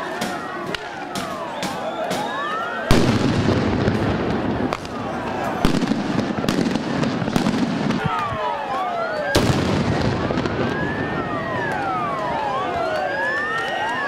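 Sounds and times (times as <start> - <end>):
crowd noise: 0.0 - 14.0
sirens wailing: 0.0 - 14.0.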